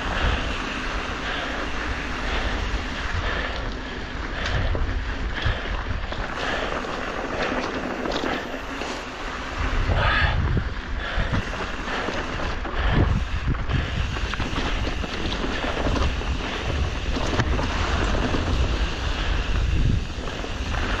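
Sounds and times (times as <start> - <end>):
wind buffeting microphone: 0.0 - 21.0
bike knocks and rattles: 0.1 - 9.7, 11.0 - 21.0.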